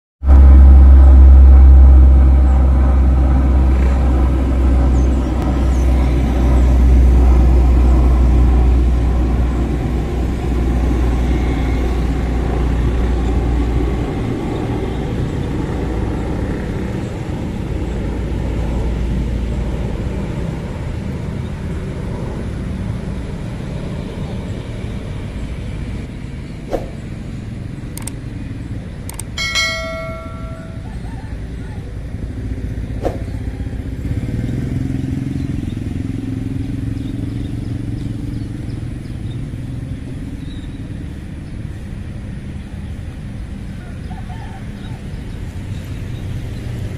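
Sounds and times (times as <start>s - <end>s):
propeller airplane engines droning: 0.2s - 46.9s.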